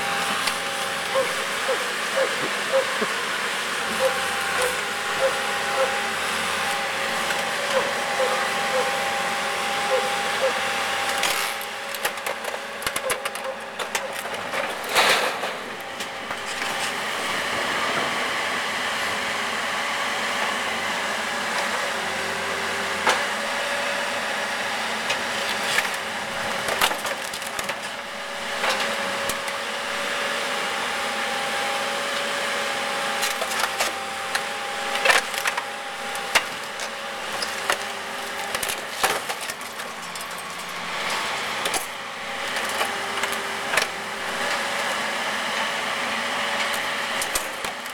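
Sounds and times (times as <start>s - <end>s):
excavator running: 0.0s - 47.9s.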